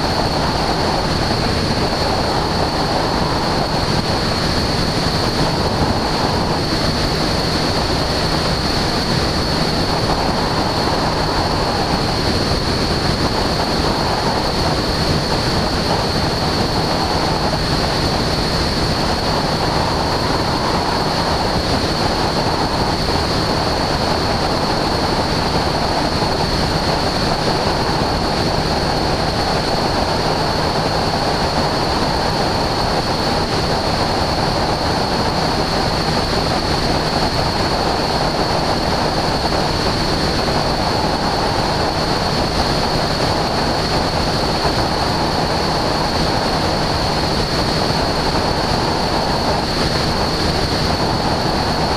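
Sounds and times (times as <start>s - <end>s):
airplane engine and propeller drone: 0.0s - 51.9s
wind rushing on microphone: 0.0s - 51.9s.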